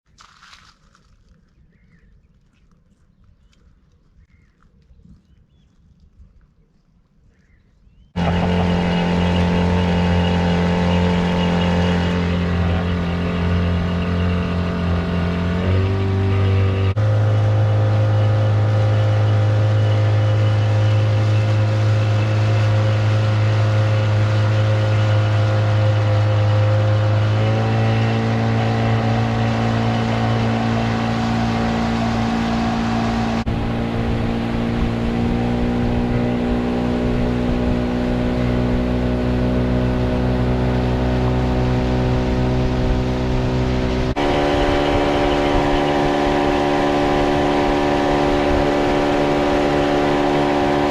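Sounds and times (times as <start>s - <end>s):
outboard motor running: 8.1s - 50.9s.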